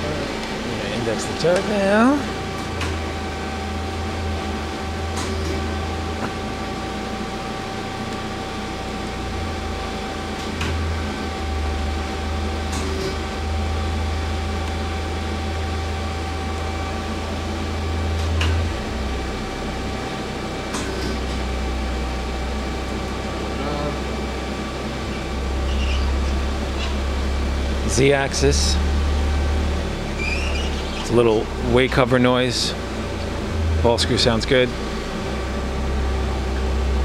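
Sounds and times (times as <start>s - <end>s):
machine steady hum: 0.0s - 37.0s.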